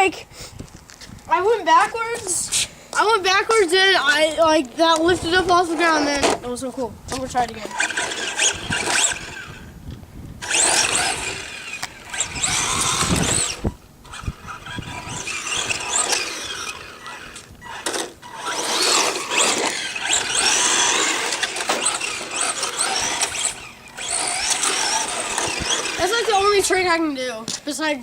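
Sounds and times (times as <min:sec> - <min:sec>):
remote control car motor whining: 0:01.3 - 0:09.7, 0:10.4 - 0:27.0.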